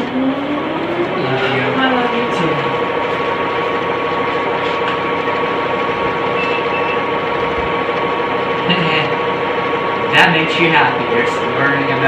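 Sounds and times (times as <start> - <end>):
video player mechanism whirring: 0.0 - 11.7.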